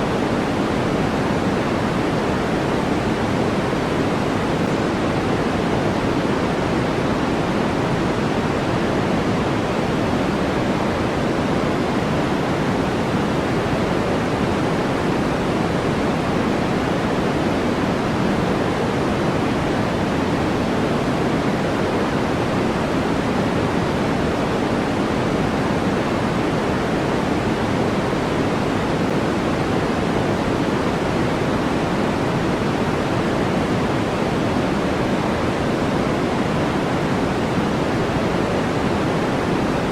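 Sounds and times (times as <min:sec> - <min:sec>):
steady synthetic noise hiss: 0:00.0 - 0:39.9.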